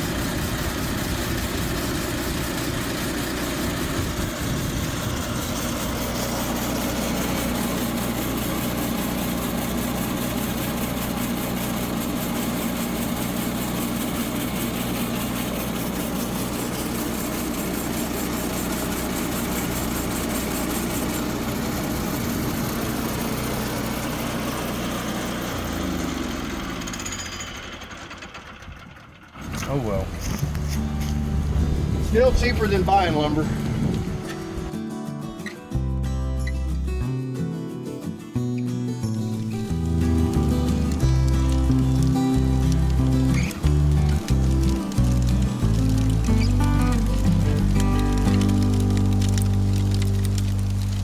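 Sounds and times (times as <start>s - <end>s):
engine running: 0.0s - 34.8s, 38.9s - 51.0s.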